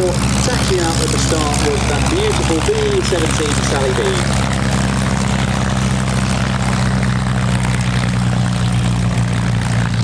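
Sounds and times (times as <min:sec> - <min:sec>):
propeller plane engines droning: 0:00.0 - 0:10.0.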